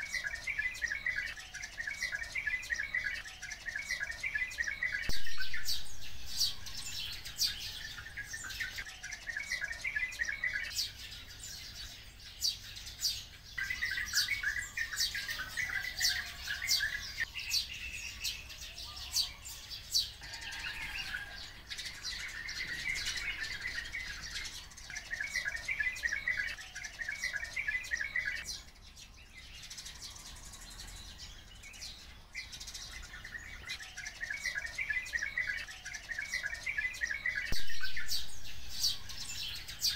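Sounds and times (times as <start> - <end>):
high bird chirps: 0.0 - 11.3, 13.6 - 39.9.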